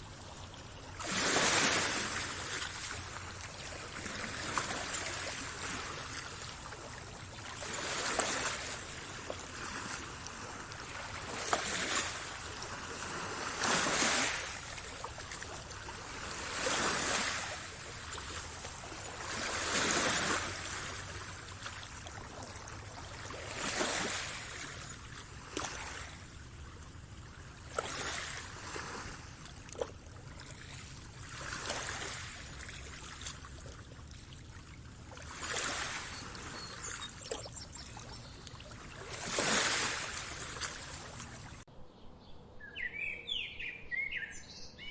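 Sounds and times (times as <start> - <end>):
small waves washing in: 0.0 - 41.7
small splashes: 0.3 - 41.6.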